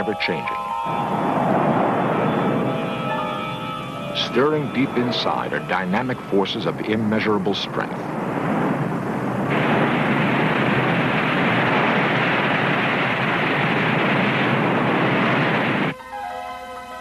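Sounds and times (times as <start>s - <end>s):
volcanic eruption rushing noise: 0.0s - 16.0s.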